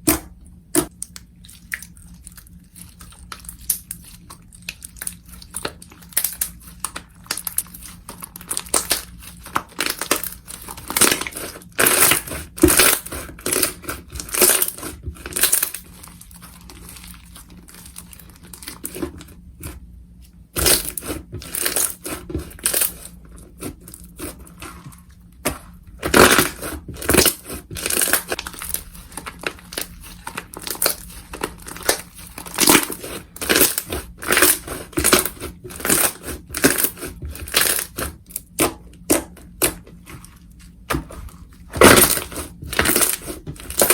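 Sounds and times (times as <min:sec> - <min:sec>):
slime crackling and popping: 0:00.8 - 0:19.0, 0:26.0 - 0:39.9, 0:40.8 - 0:43.9.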